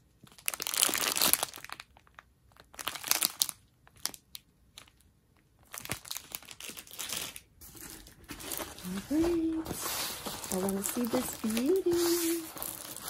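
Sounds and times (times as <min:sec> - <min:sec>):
plastic packaging crinkling: 0:00.2 - 0:13.0.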